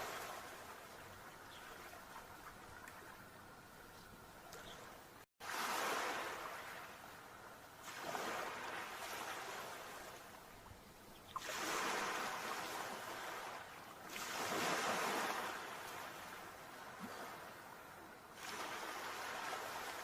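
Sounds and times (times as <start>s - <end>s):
sea waves breaking on shore: 0.0s - 3.5s, 5.4s - 10.7s, 11.3s - 20.0s.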